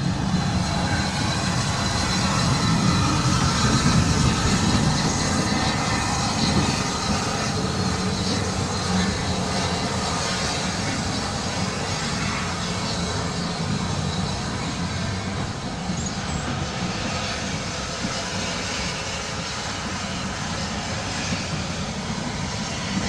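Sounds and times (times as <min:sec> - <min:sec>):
steam locomotive hissing and rumbling: 0:00.0 - 0:23.0.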